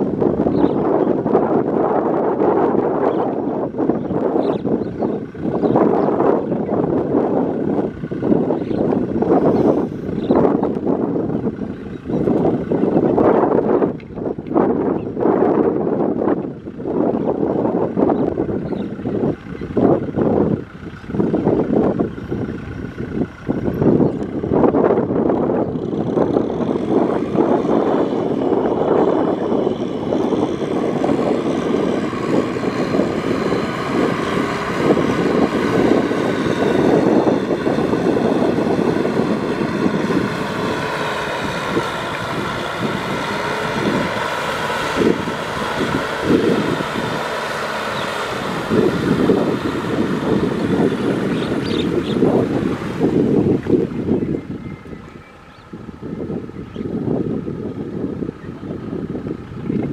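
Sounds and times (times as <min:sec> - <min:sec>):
tiller churning mud and water: 0:00.0 - 0:59.9
tractor diesel engine running: 0:00.0 - 0:59.9.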